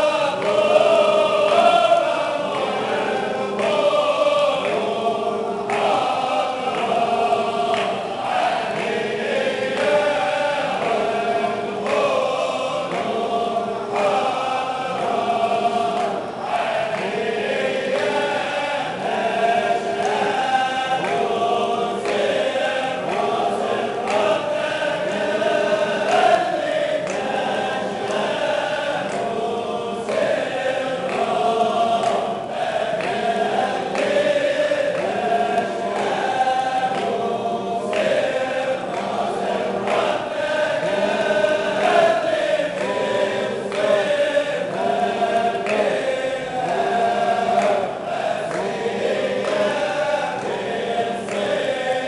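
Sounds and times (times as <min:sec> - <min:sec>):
men chanting together: 0:00.0 - 0:52.0.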